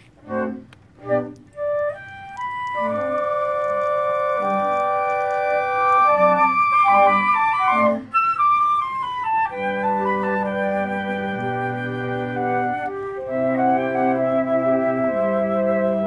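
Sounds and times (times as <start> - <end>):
flute ensemble playing chords: 0.0 - 16.0.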